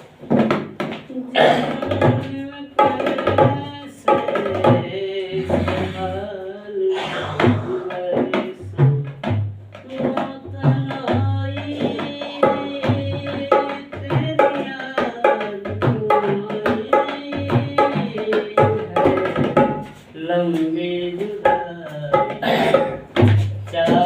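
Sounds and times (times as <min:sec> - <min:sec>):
tabla beat: 0:00.1 - 0:24.0.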